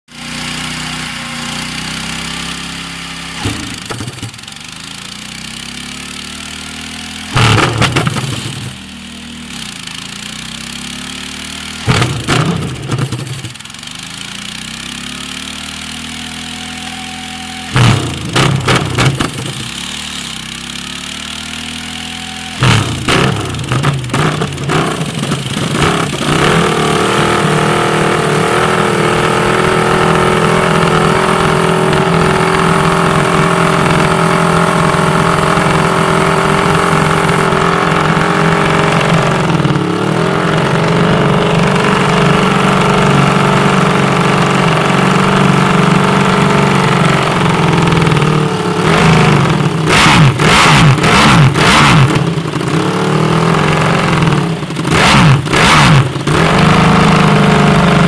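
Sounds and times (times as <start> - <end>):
motorcycle engine idling fast: 0.1 - 58.0
motorcycle engine revving: 0.1 - 58.0.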